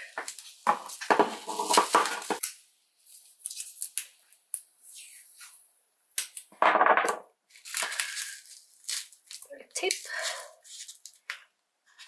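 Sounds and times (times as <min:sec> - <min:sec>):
bubble wrap crinkling: 0:00.1 - 0:05.6, 0:07.4 - 0:12.0.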